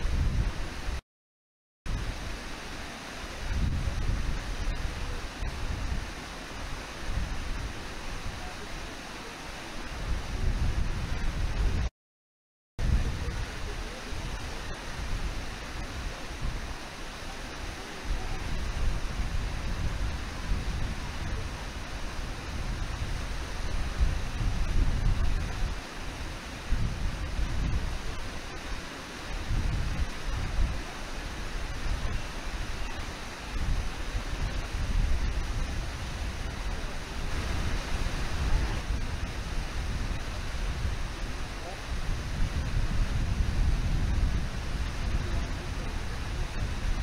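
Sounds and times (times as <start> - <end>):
river water rushing: 0.0 - 1.0, 1.9 - 11.8, 12.8 - 47.0
wind on microphone: 0.0 - 1.0, 1.9 - 11.9, 12.8 - 47.0.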